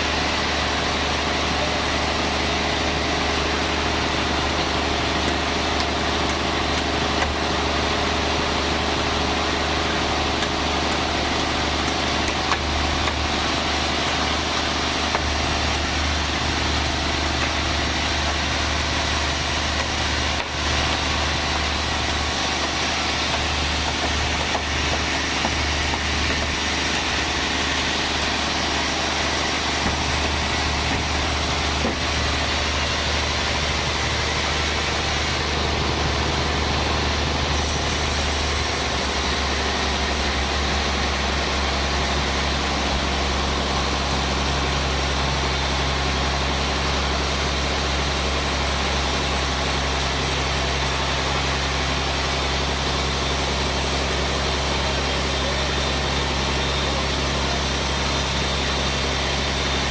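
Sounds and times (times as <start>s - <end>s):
band saw machinery humming: 0.0s - 59.9s.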